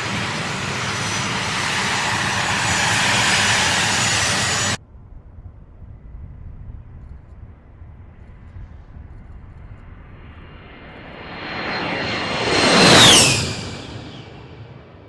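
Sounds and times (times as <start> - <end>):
jet engine rumble and whine: 0.0 - 15.0.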